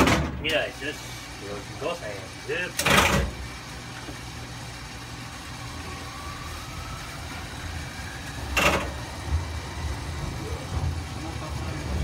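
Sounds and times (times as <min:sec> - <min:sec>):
tram motor hum and whine: 0:00.0 - 0:12.0.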